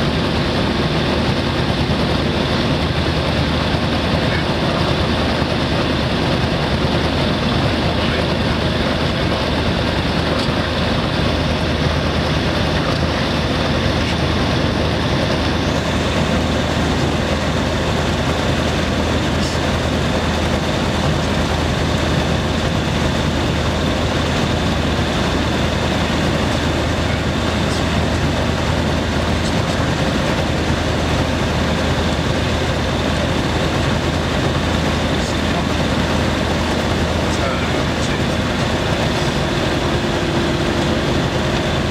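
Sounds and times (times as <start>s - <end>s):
propeller aircraft engine running: 0.0s - 41.9s.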